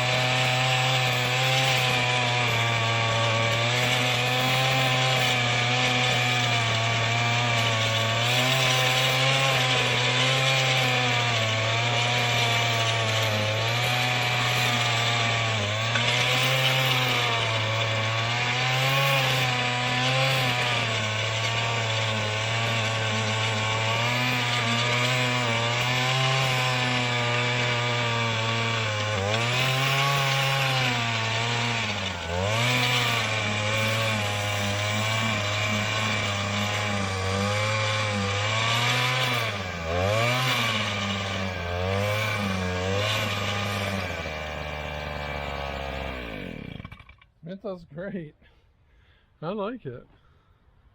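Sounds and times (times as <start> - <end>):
tiller engine running under load: 0.0 - 47.2.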